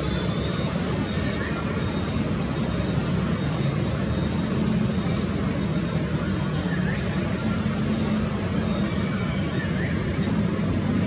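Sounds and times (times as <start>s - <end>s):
airport background noise: 0.0s - 11.0s.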